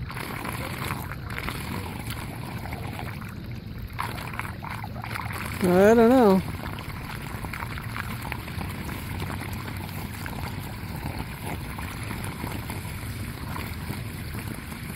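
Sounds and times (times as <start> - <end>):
water rushing down storm drain: 0.0 - 14.9.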